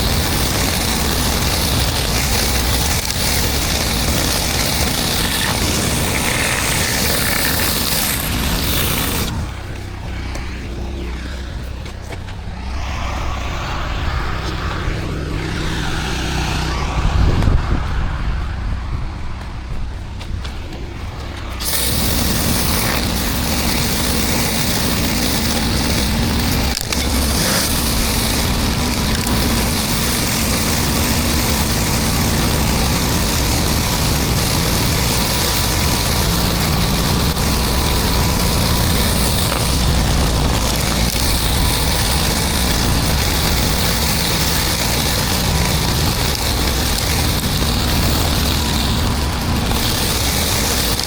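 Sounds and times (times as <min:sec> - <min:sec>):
high-pressure water spraying concrete: 0:00.0 - 0:13.7, 0:20.4 - 0:51.0
pressure washer engine drone: 0:00.0 - 0:51.0.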